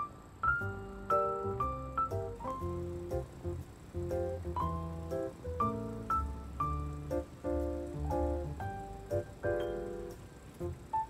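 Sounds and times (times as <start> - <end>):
bouncy light background music: 0.0 - 11.0.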